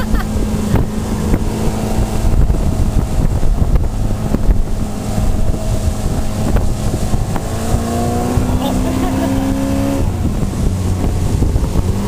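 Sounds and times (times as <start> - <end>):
outboard motor running: 0.0 - 12.0
water rushing in wake: 0.0 - 12.0
wind buffeting microphone: 0.0 - 12.0.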